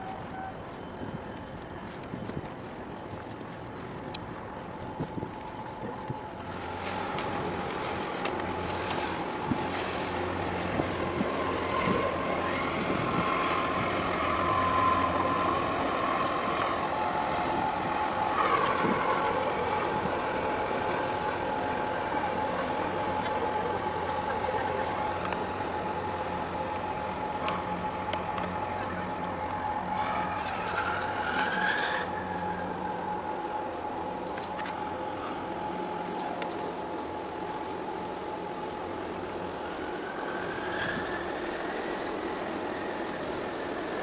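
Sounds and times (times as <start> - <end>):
ship machinery hum and whine: 0.0 - 44.0.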